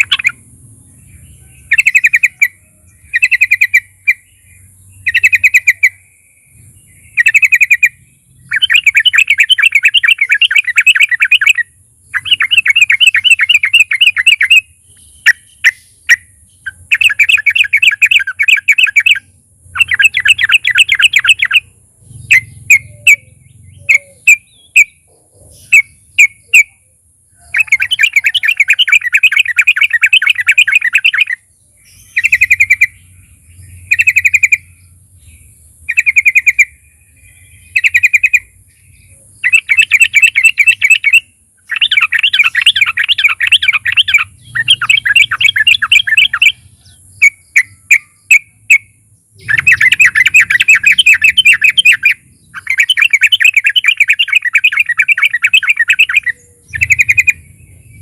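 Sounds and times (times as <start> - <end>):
bulbul singing rattling phrases: 0.0 - 58.0
short bird chirps: 3.0 - 58.0.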